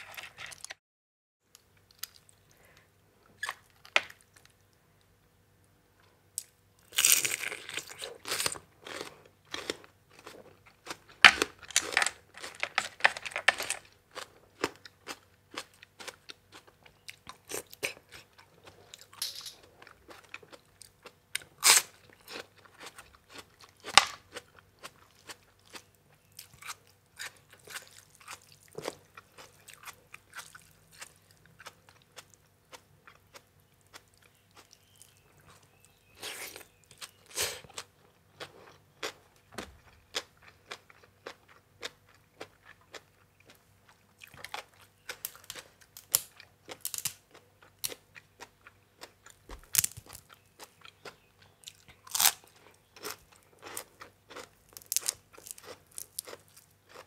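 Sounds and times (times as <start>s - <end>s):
person chewing and crunching food: 1.6s - 4.8s, 6.0s - 57.0s.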